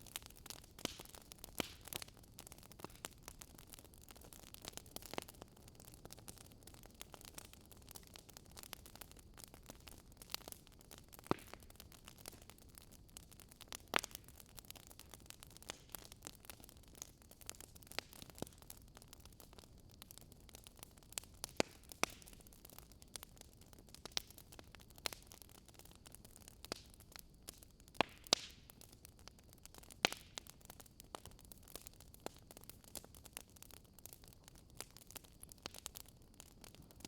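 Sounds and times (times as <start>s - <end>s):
low steady hiss: 0.0s - 37.0s
wood fire crackling and popping: 0.0s - 37.0s.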